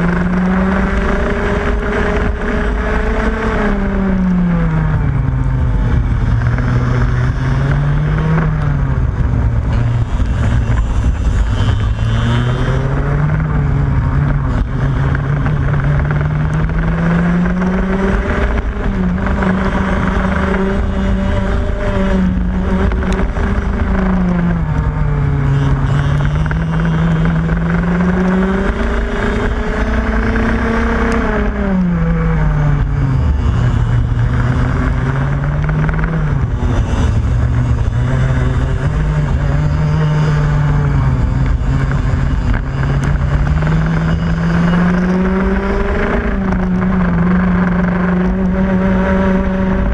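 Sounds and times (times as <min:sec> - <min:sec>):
go-kart engine revving: 0:00.0 - 0:49.9.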